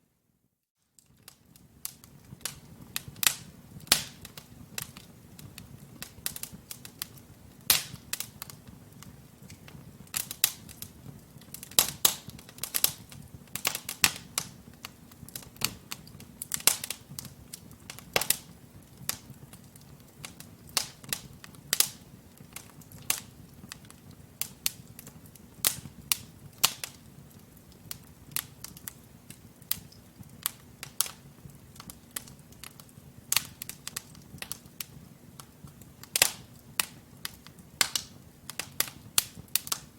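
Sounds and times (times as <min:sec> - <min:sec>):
fire crackling and popping: 0:00.8 - 0:39.9
low rumble of flames: 0:01.1 - 0:39.9.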